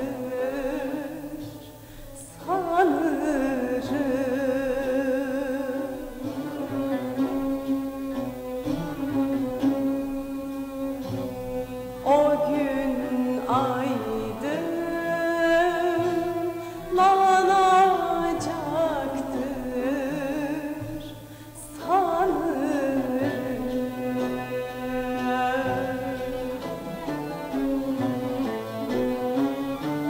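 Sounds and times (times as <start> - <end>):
woman singing with vibrato: 0.0 - 26.8
instrumental accompaniment: 0.0 - 30.0.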